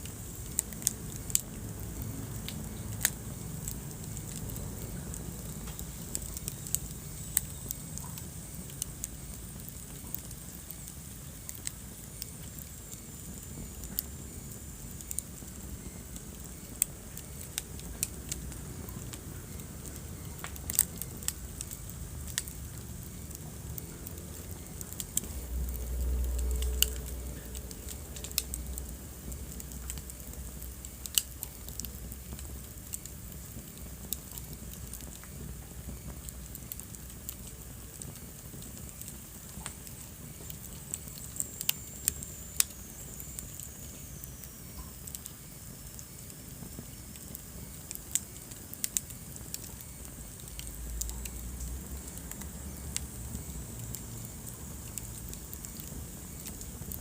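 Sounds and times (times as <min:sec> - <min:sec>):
fire crackling and popping: 0:00.0 - 0:57.0
wood fire hissing and rumbling: 0:00.0 - 0:57.0
high whistle from burning wood: 0:03.0 - 0:57.0.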